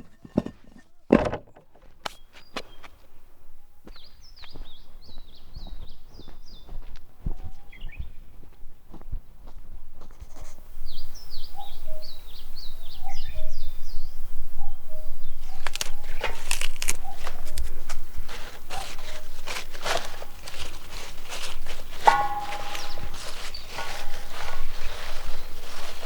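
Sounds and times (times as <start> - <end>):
birds singing: 2.0 - 8.5, 9.2 - 26.0.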